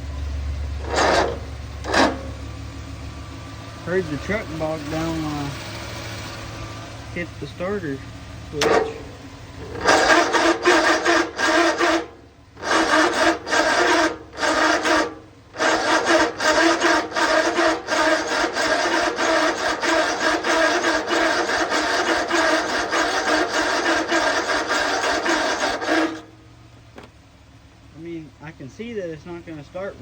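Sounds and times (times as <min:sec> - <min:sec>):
mower starter cranking engine: 0:00.0 - 0:30.0.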